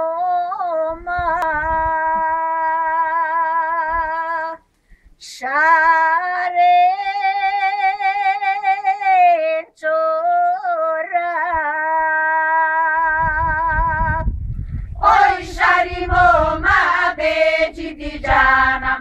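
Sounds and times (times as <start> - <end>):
women singing unaccompanied: 0.0 - 4.6, 5.2 - 14.2, 15.0 - 19.0.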